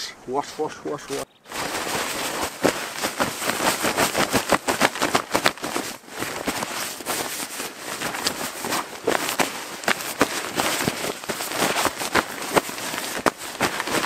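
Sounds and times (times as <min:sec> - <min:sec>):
clothes splashing in water: 0:01.5 - 0:14.0.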